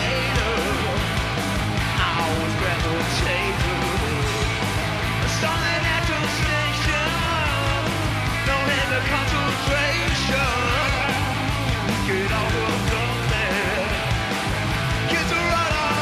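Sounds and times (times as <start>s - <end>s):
hard rock band playing: 0.0s - 16.0s.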